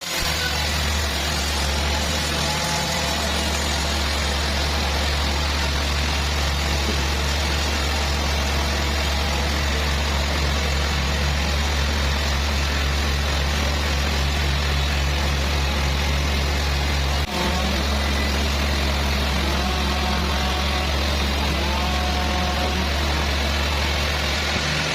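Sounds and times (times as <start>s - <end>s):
sawmill engine running: 0.0s - 24.9s.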